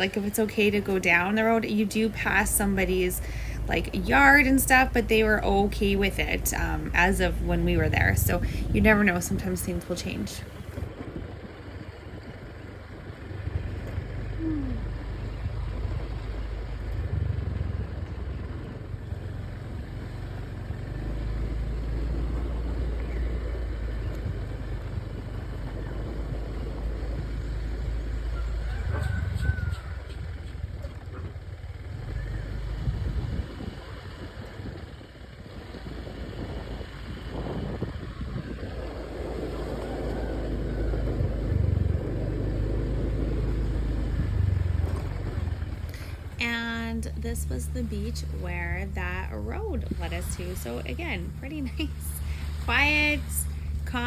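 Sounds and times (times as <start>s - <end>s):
motor scooter engine rumbling: 0.0s - 54.0s
wind buffeting microphone: 0.0s - 54.0s.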